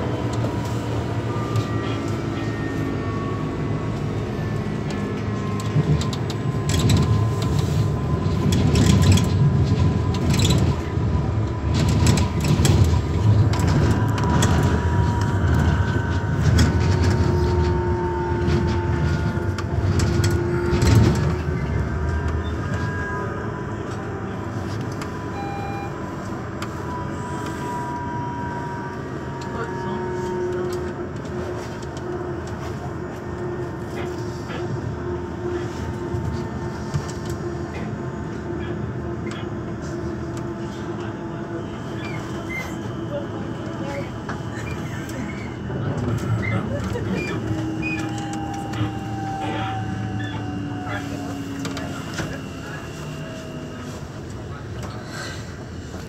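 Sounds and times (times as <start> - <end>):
constant hum: 0.0 - 56.0
wheel-on-rail rumble: 0.0 - 56.0.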